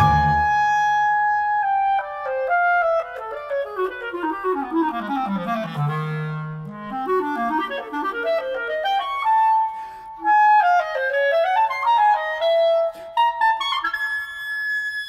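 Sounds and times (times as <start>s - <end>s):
clarinet playing fast runs: 0.0s - 15.0s.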